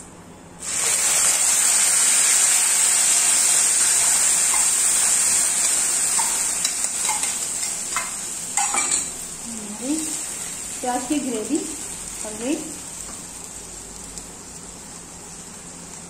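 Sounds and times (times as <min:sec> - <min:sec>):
paste sizzling in hot oil: 0:00.6 - 0:16.0.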